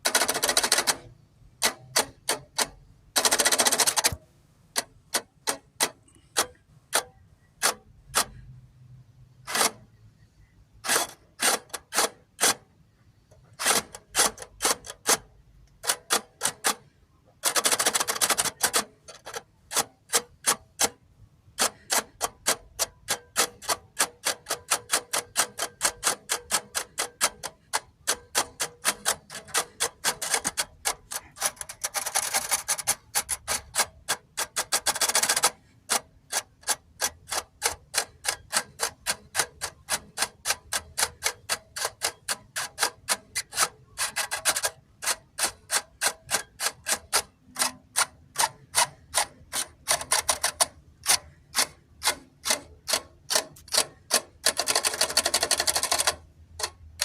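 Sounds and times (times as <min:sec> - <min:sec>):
sharp mechanical clicks: 0:00.0 - 0:12.7, 0:13.3 - 0:57.0.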